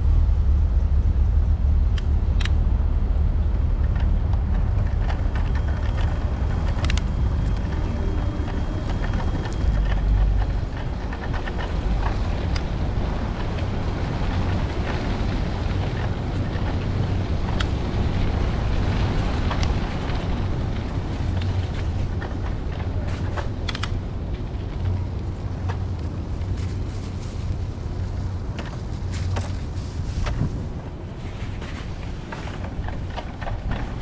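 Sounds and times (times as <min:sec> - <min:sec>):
road noise: 0:00.0 - 0:34.0
wind rumbling on microphone: 0:00.0 - 0:34.0
small clicks and rattles: 0:03.7 - 0:30.6, 0:31.2 - 0:34.0.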